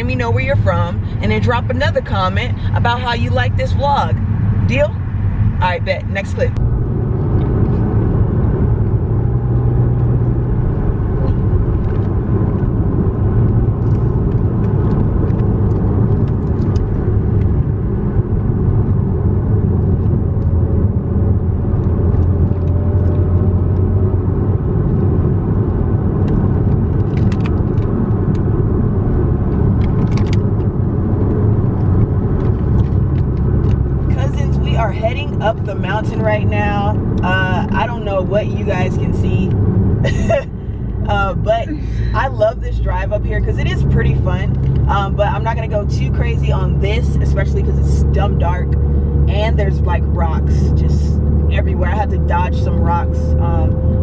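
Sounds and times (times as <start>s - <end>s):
car engine droning in cabin: 0.0s - 54.0s.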